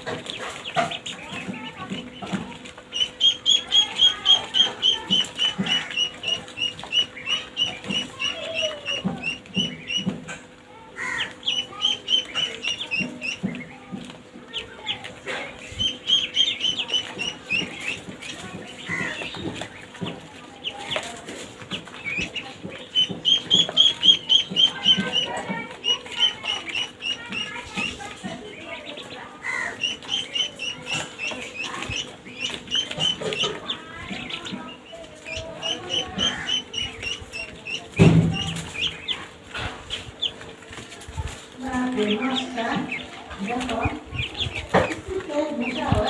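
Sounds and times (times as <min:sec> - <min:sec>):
ducklings peeping: 0:00.0 - 0:46.0.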